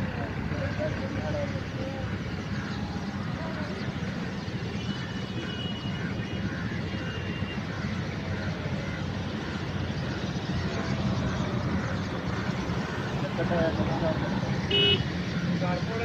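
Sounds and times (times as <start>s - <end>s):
motor vehicle rumbling: 0.0s - 16.0s.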